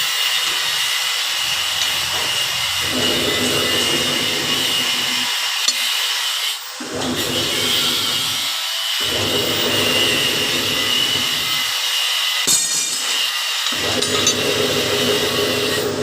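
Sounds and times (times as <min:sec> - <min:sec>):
power tool running: 0:00.0 - 0:16.0.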